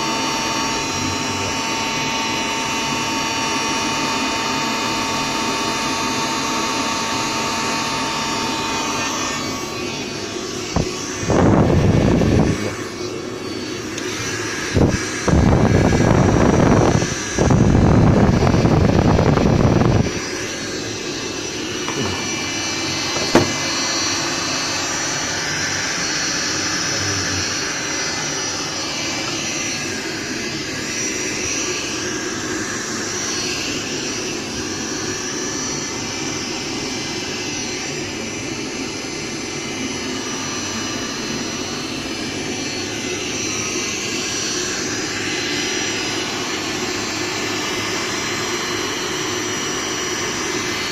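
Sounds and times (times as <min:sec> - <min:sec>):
heat gun blowing whine: 0:00.0 - 0:50.9.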